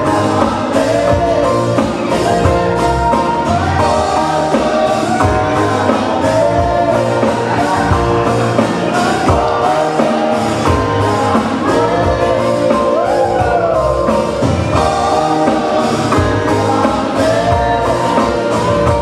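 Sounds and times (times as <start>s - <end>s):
guitar chords: 0.0s - 19.0s
steady bass: 0.0s - 19.0s.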